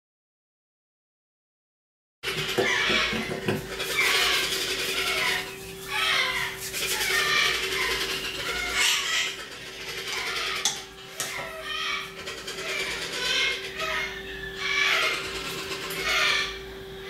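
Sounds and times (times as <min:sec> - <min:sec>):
parrots squawking: 0:02.2 - 0:16.8
steady hum: 0:02.2 - 0:17.0.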